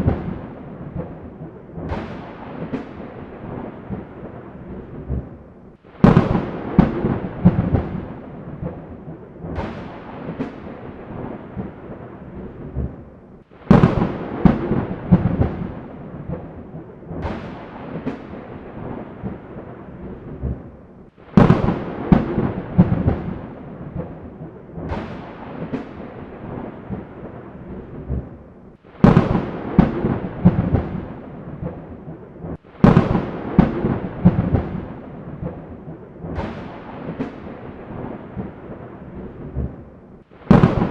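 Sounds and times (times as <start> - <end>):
thunder cracks and rumbles: 0.0 - 40.9.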